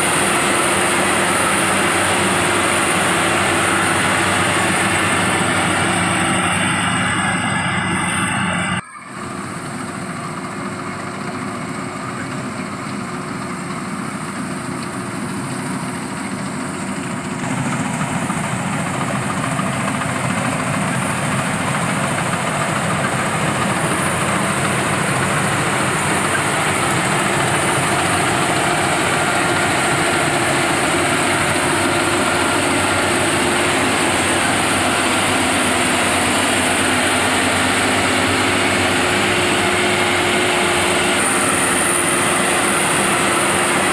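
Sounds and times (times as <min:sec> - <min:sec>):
harvester engine running: 0:00.0 - 0:43.9.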